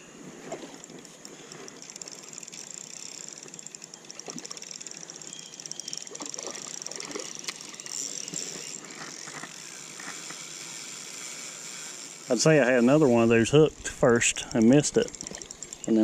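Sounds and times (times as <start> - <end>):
fishing reel whirring: 0.5 - 16.0.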